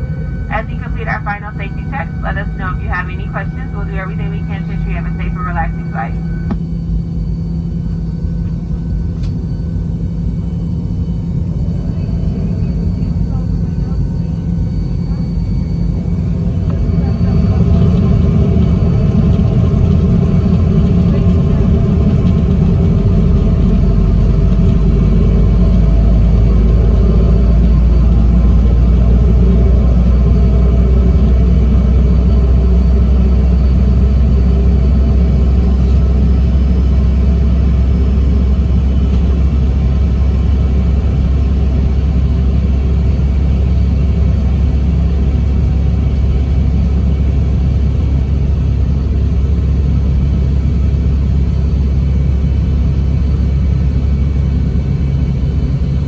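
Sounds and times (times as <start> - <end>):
faint hum: 0.0 - 56.0
jet engine rumble in cabin: 0.0 - 56.0.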